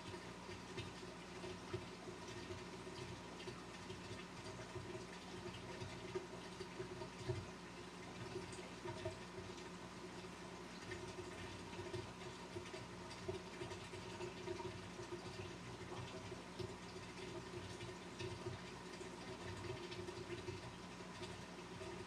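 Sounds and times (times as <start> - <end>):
aquarium pump hum: 0.0 - 22.0
faint ticks and splashes: 0.0 - 22.0
trickling water: 0.0 - 22.0.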